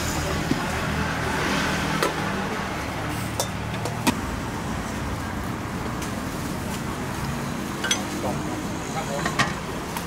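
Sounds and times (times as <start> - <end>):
street traffic engines humming: 0.0 - 10.0.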